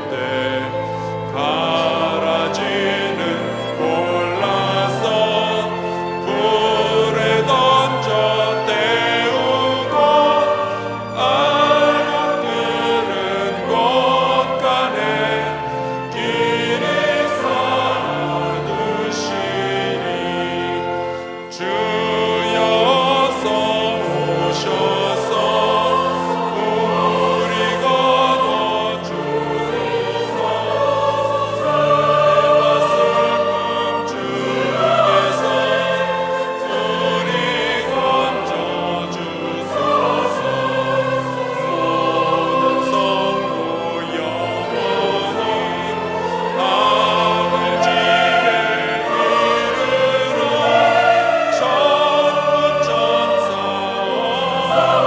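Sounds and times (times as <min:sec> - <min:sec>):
choir singing: 0:00.0 - 0:55.0
instrumental accompaniment: 0:00.0 - 0:55.0.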